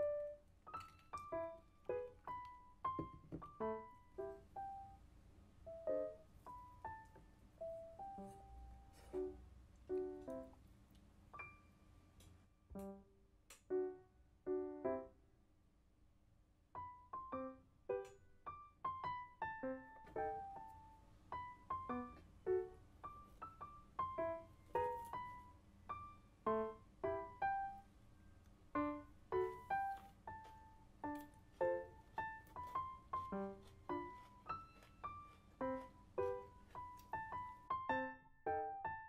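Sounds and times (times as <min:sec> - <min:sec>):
gentle piano melody: 0:00.0 - 0:15.3, 0:16.7 - 0:39.0.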